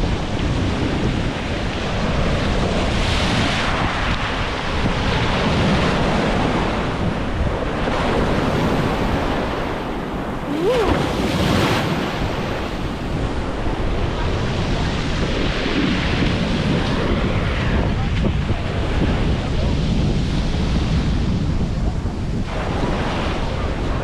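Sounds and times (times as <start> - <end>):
sea waves washing onto beach: 0.0 - 24.0
wind buffeting microphone: 0.0 - 24.0.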